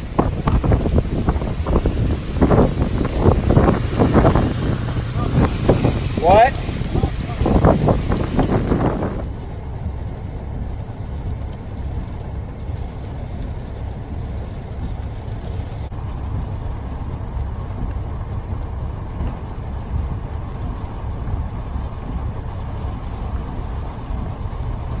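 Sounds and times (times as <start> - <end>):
storm wind buffeting microphone: 0.0 - 25.0.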